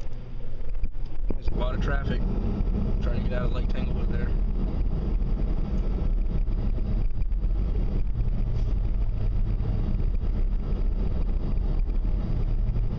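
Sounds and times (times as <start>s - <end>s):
wind buffeting microphone: 0.5s - 12.9s.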